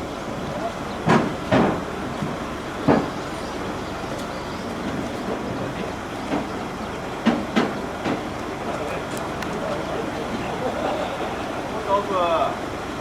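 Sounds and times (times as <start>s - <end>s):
steady mechanical rumble: 0.0s - 13.0s.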